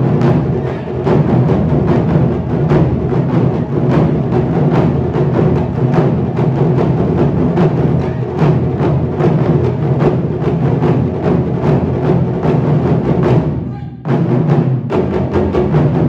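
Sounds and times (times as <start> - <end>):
taiko drums playing rhythm: 0.0 - 16.0.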